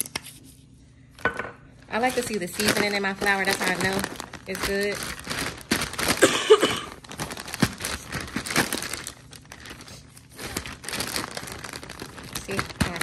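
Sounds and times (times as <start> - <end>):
plastic bag crinkling: 1.2 - 13.0.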